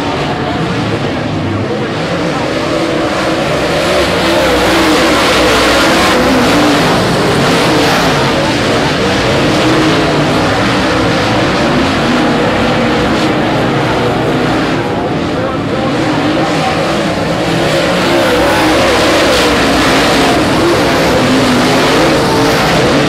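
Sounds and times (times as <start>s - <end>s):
race car engines running hard: 0.0s - 23.0s.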